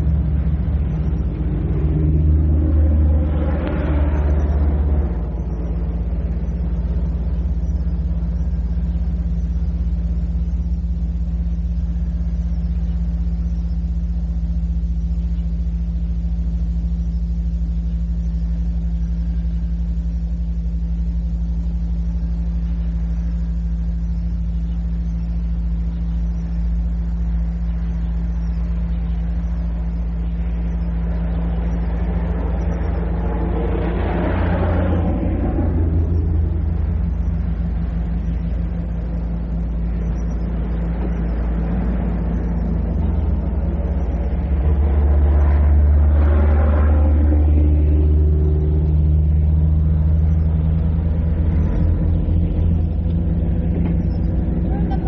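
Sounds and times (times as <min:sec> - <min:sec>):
broad noise: 0:00.0 - 0:55.0
low hum and rumble: 0:00.0 - 0:55.0.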